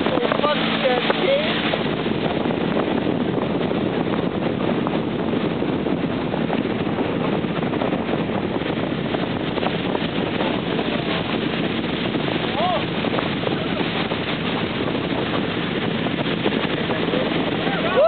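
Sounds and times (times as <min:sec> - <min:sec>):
boat engine running: 0:00.0 - 0:18.0
water rushing: 0:00.0 - 0:18.0
wind buffeting microphone: 0:00.0 - 0:18.0.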